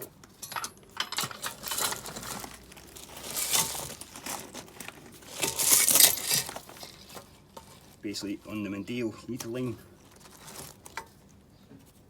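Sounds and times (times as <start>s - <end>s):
parts crinkling and scraping: 0.0s - 12.0s.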